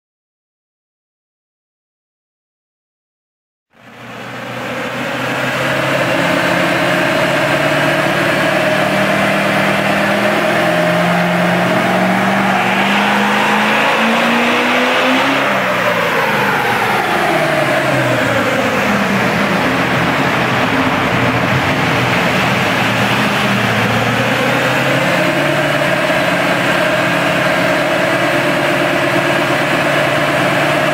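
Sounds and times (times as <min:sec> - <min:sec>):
diesel engine revving: 0:03.8 - 0:30.9.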